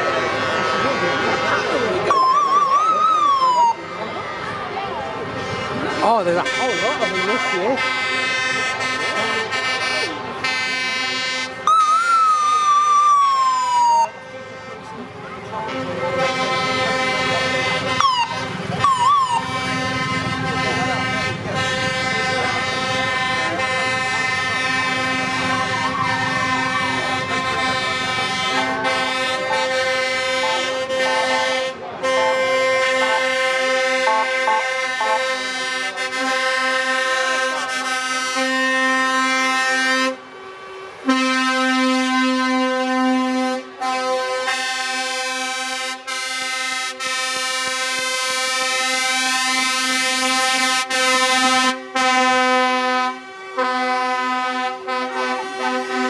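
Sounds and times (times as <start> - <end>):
low engine rumble: 0.0 - 46.6
truck air horns: 0.0 - 56.0.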